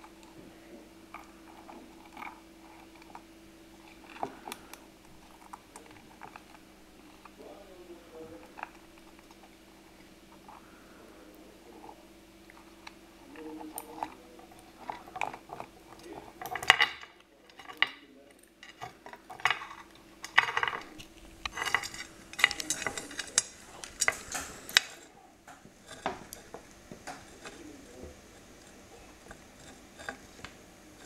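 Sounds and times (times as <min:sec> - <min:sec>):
crab shell scraping on stone: 0:01.1 - 0:31.0.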